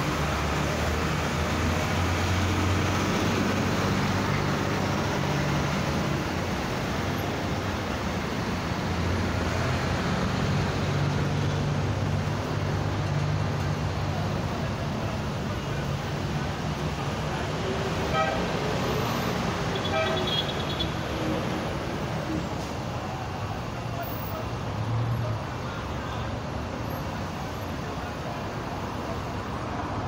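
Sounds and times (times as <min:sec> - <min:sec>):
highway traffic: 0:00.0 - 0:30.0.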